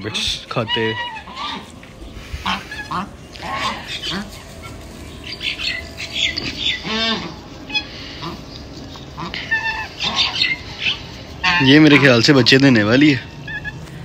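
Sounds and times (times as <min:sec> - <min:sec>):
rasping goose honk: 0:00.0 - 0:01.8, 0:02.4 - 0:08.4, 0:09.1 - 0:12.4, 0:13.0 - 0:14.0
geese honking: 0:00.0 - 0:14.0.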